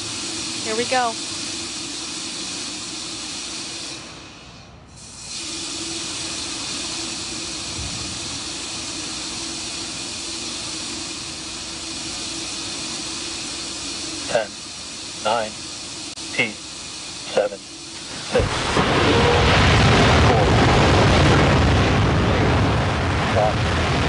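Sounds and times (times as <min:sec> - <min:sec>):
rocket venting hiss: 0:00.0 - 0:24.0.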